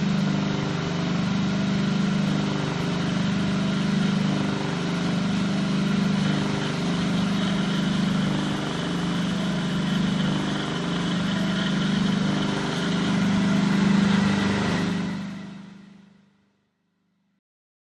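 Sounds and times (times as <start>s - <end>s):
low wavering machine hum: 0.0s - 16.3s.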